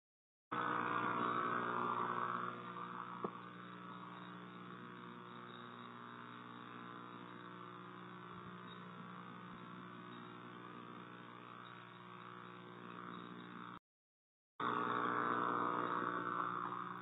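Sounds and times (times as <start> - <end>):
buzzy electrical hum: 0.5 - 13.8, 14.6 - 17.0.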